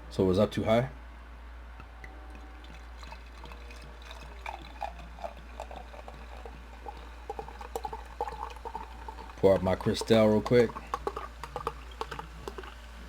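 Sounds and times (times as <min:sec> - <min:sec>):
low steady hum: 0:00.0 - 0:13.0
soft liquid blips: 0:02.0 - 0:12.9
juice pouring and fizzing: 0:02.1 - 0:13.0.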